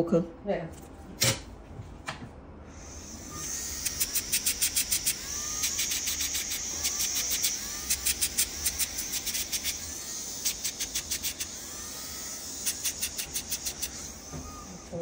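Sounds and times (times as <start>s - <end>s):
micromotor high whine: 2.7s - 15.0s.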